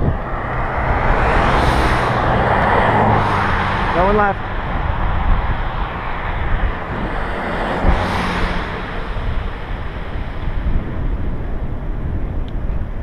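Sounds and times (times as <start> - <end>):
car passing: 0.0 - 12.4
wind buffeting microphone: 0.0 - 13.0.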